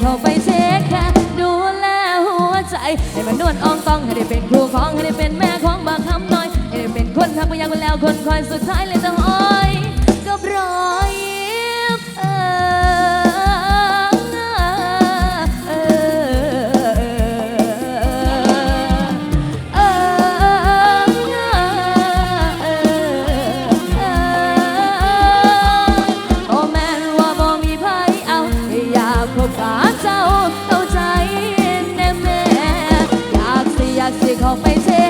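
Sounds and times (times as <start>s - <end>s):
ornamented melodic lead: 2.7s - 35.0s
steady kick drum beat: 3.0s - 10.4s, 12.8s - 35.0s.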